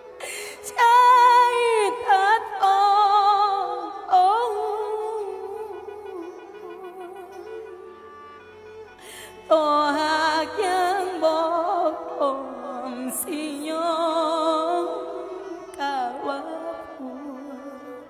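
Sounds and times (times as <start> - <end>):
woman singing with vibrato: 0.0 - 7.9, 9.4 - 18.0.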